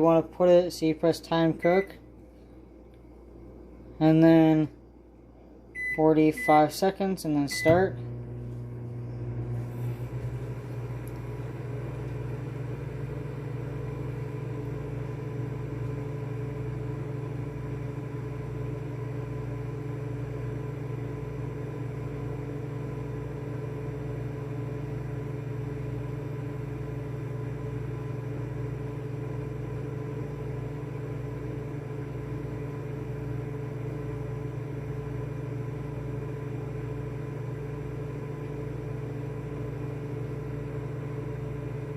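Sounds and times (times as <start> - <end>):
microwave oven humming: 0.0 - 41.9.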